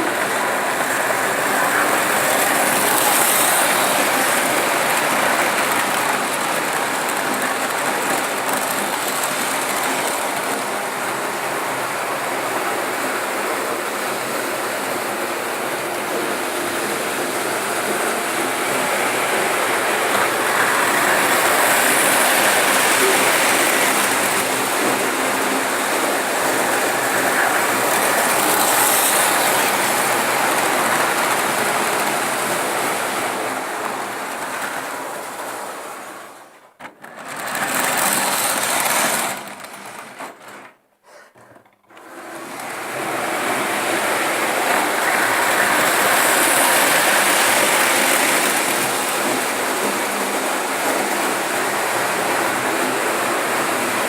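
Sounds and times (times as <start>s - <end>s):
model train whirring clatter: 0.0s - 40.8s, 41.8s - 54.0s.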